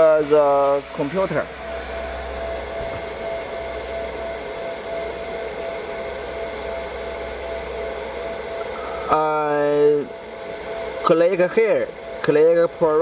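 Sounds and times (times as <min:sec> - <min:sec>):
fan whirring and hiss: 0:00.0 - 0:13.0.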